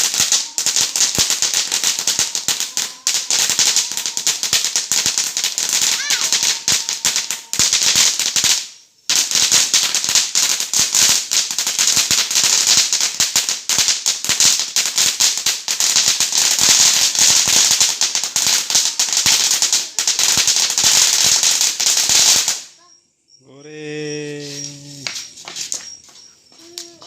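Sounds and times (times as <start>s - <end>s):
fireworks crackling and hissing: 0.0s - 27.0s.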